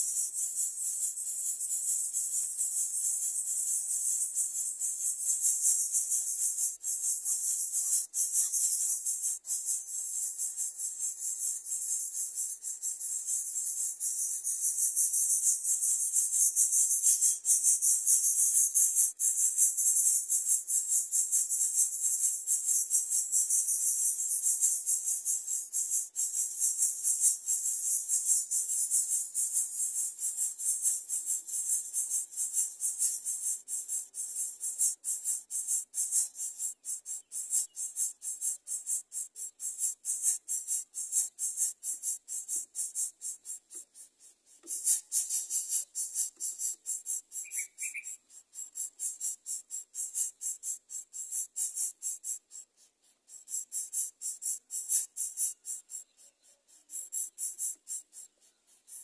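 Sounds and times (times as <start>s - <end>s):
insects buzzing: 0.0s - 43.9s, 44.6s - 52.5s.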